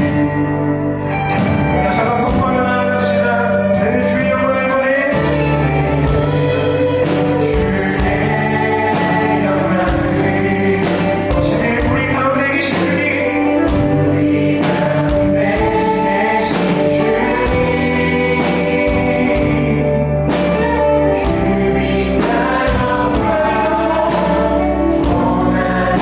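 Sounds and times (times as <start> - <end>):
worship band playing: 0.0 - 26.0
voices singing together: 1.8 - 26.0
steady drum beat: 5.1 - 26.0.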